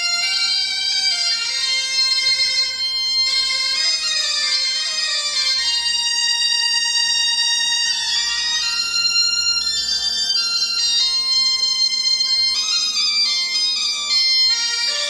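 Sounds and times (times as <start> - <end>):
bagpipe drone: 0.0 - 15.0.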